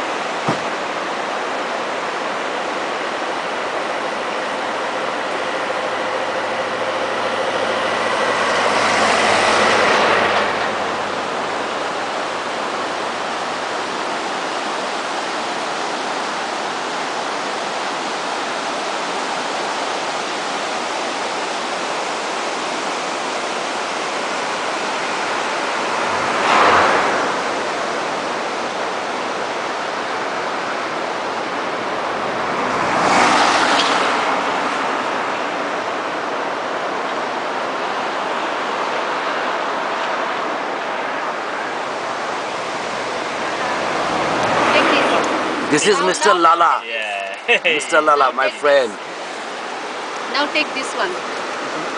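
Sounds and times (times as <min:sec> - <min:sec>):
fast-flowing river roaring: 0:00.0 - 0:51.9.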